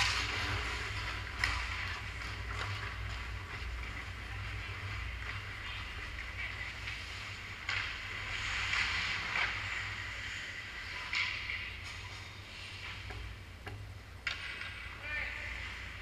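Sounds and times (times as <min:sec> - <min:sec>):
skate blades scraping ice: 0:00.0 - 0:13.1
steady low hum: 0:00.0 - 0:16.0.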